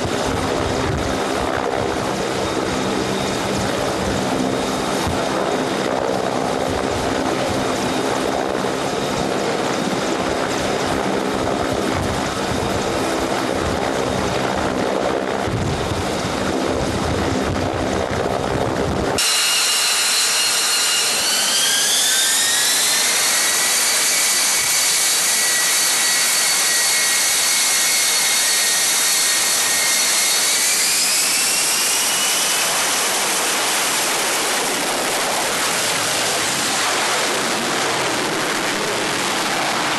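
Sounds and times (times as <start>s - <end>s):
jet engine whining: 0.0s - 39.9s
rushing wind or sea: 0.0s - 39.9s.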